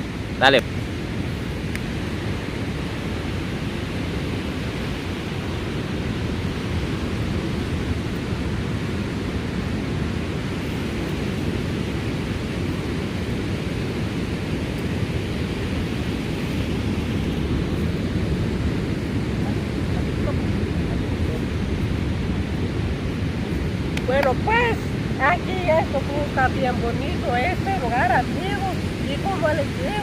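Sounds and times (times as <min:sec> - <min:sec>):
wind blowing on microphone: 0:00.0 - 0:30.0.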